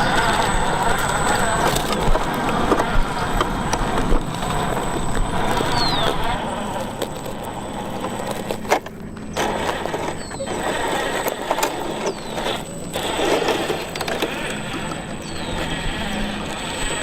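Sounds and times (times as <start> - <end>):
remote-control truck driving: 0.0 - 17.0.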